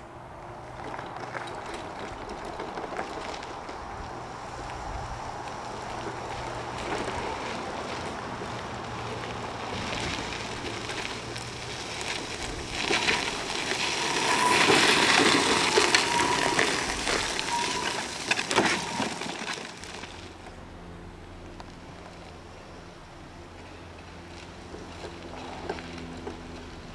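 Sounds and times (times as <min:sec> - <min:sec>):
wheelchair tyres crunching on gravel: 0:00.6 - 0:26.9.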